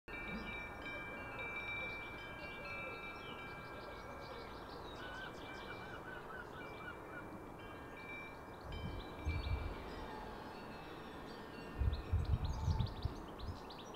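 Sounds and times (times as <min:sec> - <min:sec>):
wind chimes ringing: 0:00.1 - 0:13.9.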